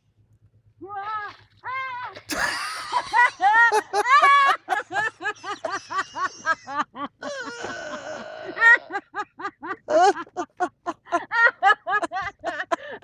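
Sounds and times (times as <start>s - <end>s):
person laughing hard: 2.3s - 13.0s.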